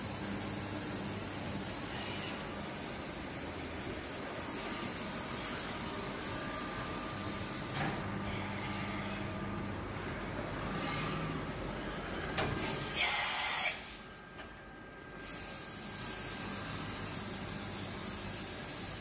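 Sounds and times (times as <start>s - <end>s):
milling machine hissing and humming: 0.0s - 14.2s, 14.8s - 19.0s.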